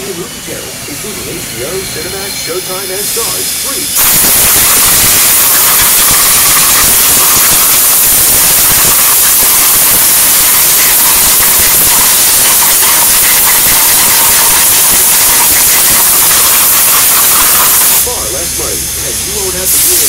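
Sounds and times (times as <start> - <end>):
coolant spraying hiss: 0.0 - 20.0.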